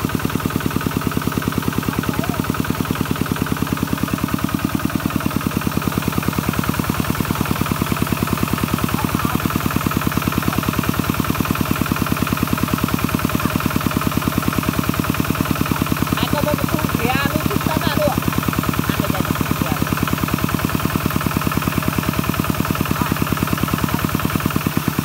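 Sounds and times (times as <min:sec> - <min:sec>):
diesel engine chugging: 0:00.0 - 0:25.0
wheel spinning in mud and water: 0:00.0 - 0:25.0.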